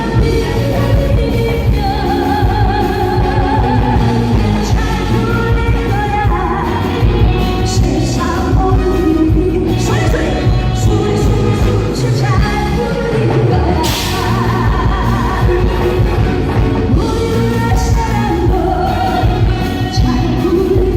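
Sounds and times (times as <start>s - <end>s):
woman singing pop song: 0.0s - 20.9s.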